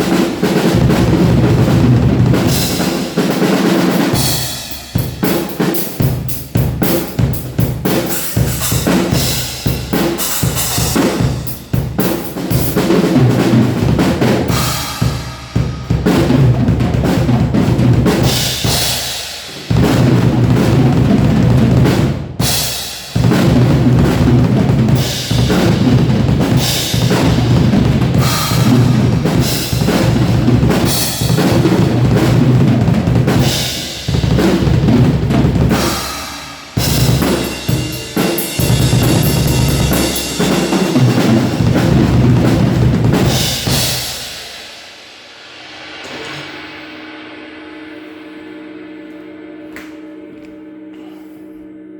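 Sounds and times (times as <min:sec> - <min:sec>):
acoustic drum kit playing: 0:00.0 - 0:51.6.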